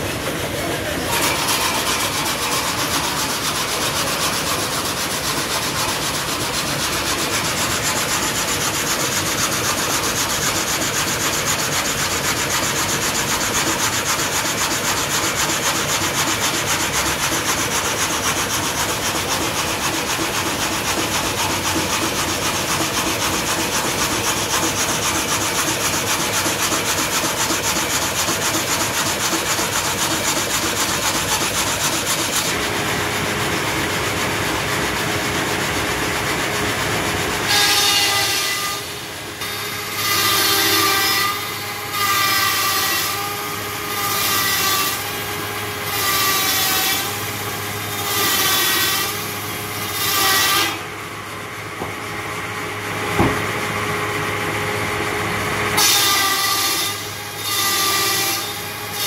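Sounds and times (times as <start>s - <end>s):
saw blade rasping through wood: 0.0s - 32.8s, 33.8s - 51.0s, 55.8s - 59.0s.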